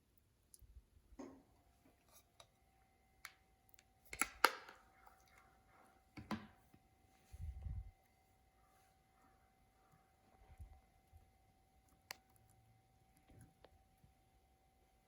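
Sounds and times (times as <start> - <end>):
faint steady tone: 0.0 - 4.2, 4.8 - 15.0.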